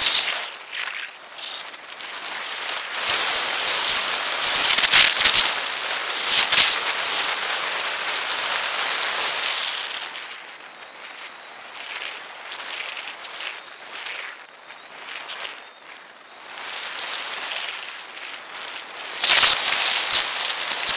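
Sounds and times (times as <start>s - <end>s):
crackling bursts: 0.0s - 20.9s
wind and rolling hiss: 0.0s - 20.9s.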